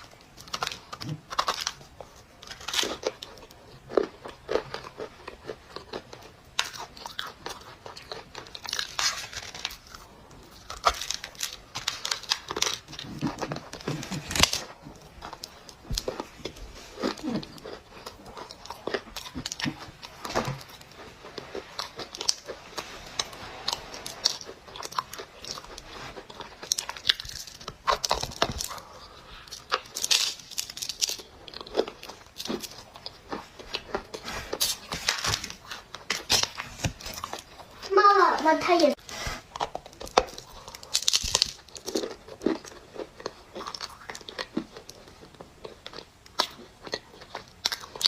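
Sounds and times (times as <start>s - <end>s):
dry clay crunching: 0.1s - 48.0s.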